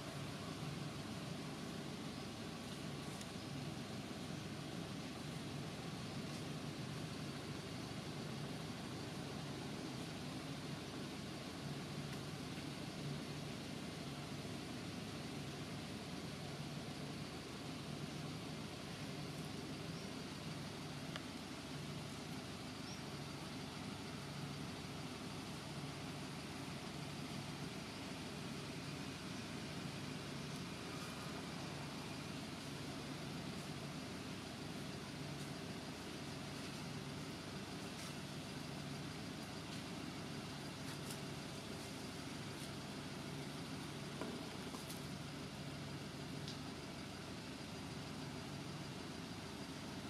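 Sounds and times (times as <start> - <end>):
outdoor background hiss: 0.0 - 50.0
steady low hum: 0.0 - 50.0.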